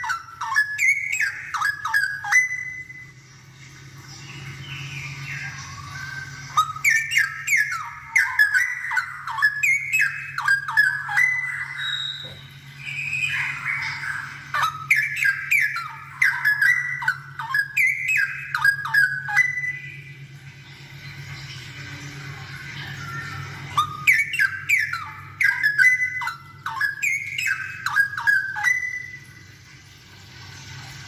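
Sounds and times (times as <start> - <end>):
bird whistling song: 0.0 - 3.3, 4.0 - 20.2, 22.5 - 29.6.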